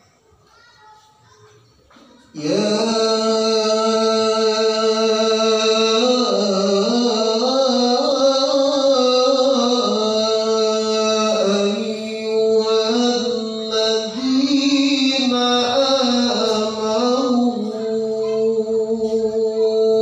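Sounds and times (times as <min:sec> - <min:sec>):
man chanting into a microphone: 0:02.3 - 0:20.0.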